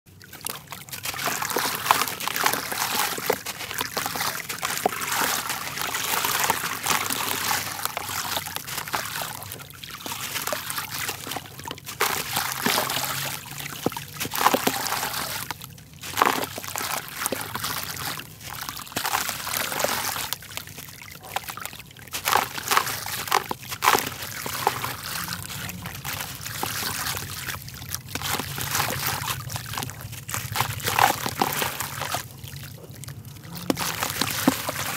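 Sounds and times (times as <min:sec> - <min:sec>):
grit trickling into water: 0:00.1 - 0:34.9
dirt crumbling in wet hands: 0:00.2 - 0:34.9.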